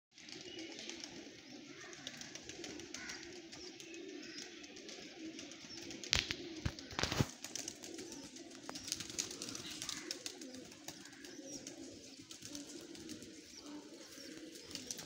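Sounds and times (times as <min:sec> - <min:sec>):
pigeons cooing: 0:00.2 - 0:15.0.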